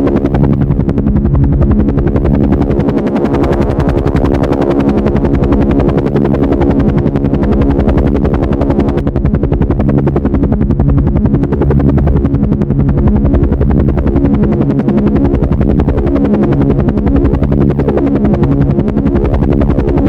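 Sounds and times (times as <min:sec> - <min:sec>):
helicopter engine whine: 0:00.0 - 0:20.0
helicopter rotor beats: 0:00.0 - 0:20.0.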